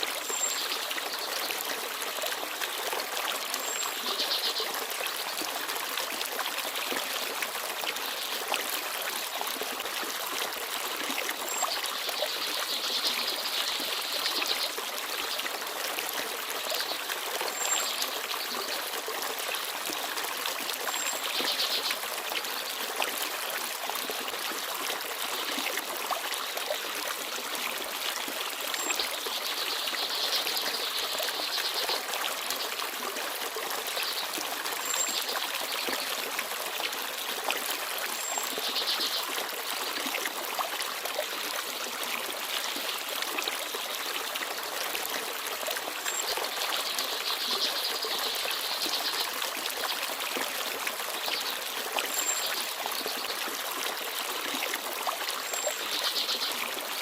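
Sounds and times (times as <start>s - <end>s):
stream babbling: 0.0s - 57.0s.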